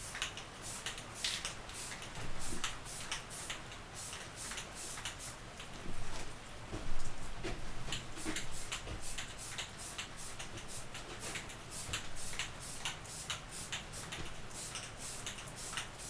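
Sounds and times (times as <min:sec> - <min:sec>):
spray paint can hissing: 0:00.0 - 0:05.4, 0:08.1 - 0:16.0.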